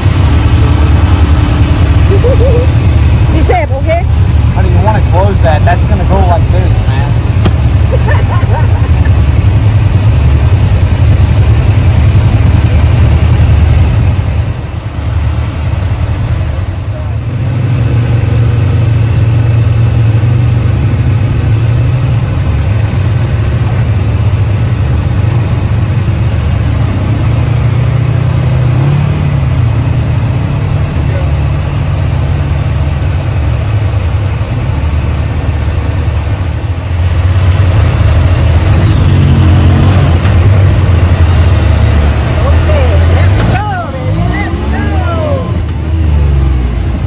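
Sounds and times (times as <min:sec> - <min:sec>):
engines idling: 0:00.0 - 0:47.0.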